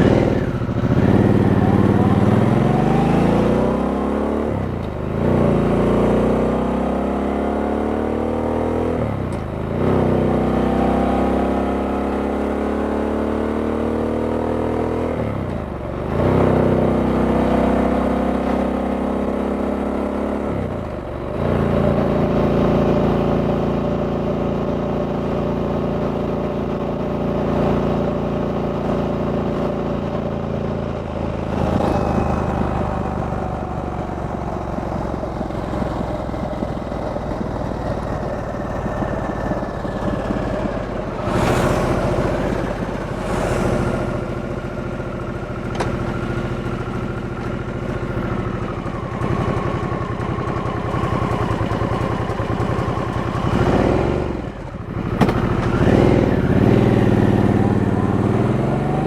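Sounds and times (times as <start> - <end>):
motorcycle engine changing gear: 0.0 - 5.9, 13.6 - 59.0.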